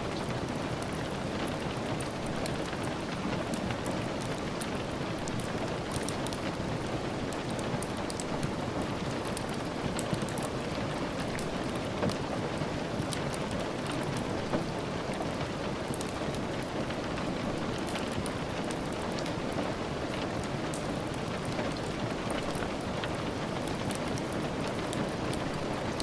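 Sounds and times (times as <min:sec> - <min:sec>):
steady rain hissing: 0:00.0 - 0:26.0
wood fire crackling: 0:00.1 - 0:26.0.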